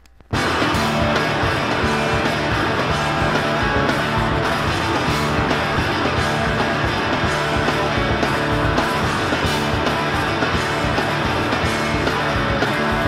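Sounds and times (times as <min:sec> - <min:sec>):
punk rock with electric guitar: 0:00.3 - 0:13.0.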